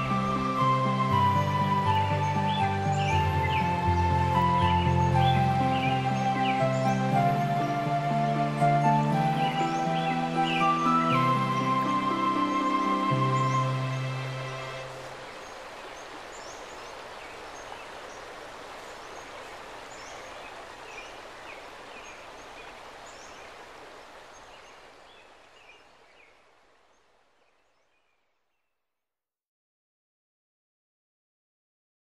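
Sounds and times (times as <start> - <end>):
small birds chirping: 0.0 - 28.8.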